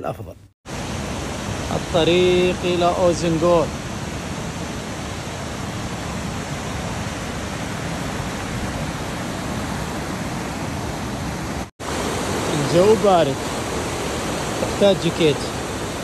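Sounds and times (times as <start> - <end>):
river rushing over boulders: 0.7 - 16.0.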